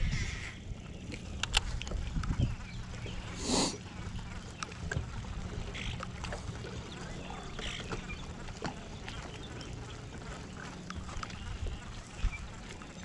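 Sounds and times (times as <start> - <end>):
birds calling: 0.0 - 13.0
low steady rumble: 0.0 - 13.0.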